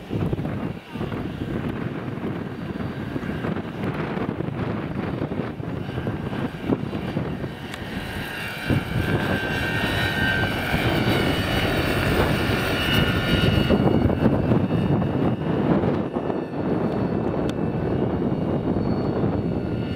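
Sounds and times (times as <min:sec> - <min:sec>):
high motor and gear whine: 0:00.0 - 0:19.9
model helicopter rotor whirring: 0:00.0 - 0:19.9.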